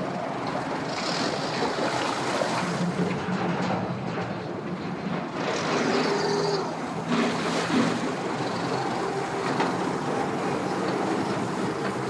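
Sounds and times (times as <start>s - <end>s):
outboard motor running: 0.0s - 12.0s
propeller churning water: 0.0s - 12.0s.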